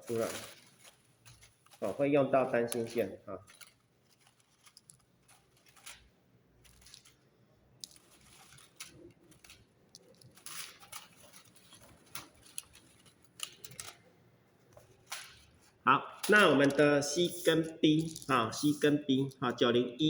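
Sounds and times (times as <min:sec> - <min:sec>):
wire and parts clicking: 0:00.0 - 0:19.6.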